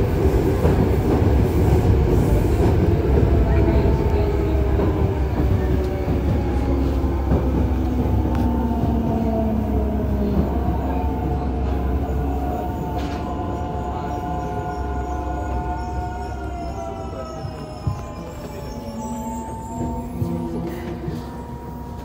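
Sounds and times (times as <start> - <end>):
rail rumble: 0.0 - 22.0.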